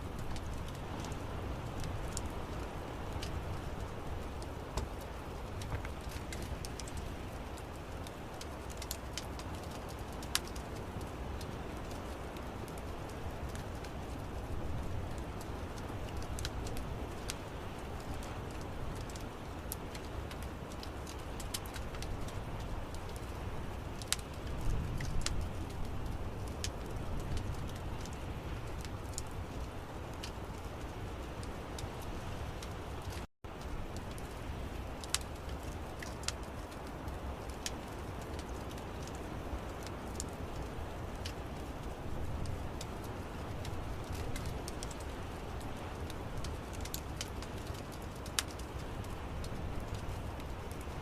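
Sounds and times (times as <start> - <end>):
fire popping and snapping: 0.0 - 51.0
low rumble of flames: 0.0 - 51.0
wood fire crackling: 0.0 - 51.0.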